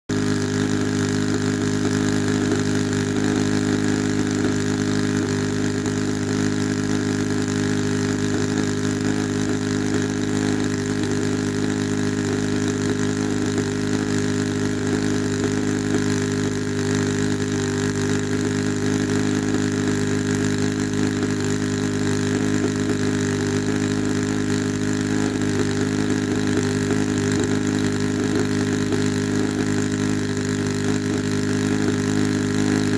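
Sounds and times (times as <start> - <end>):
model aeroplane engine running: 0.1 - 32.9.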